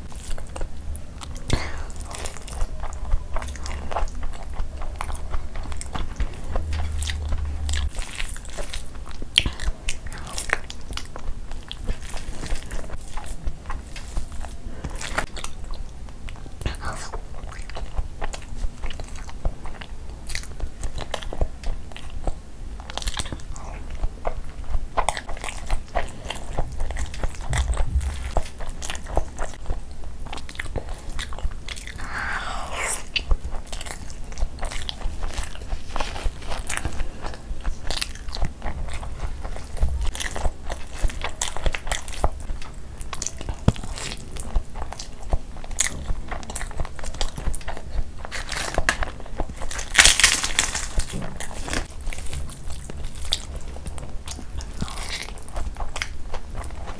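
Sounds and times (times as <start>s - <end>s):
wet chewing with mouth clicks: 0.0s - 56.9s.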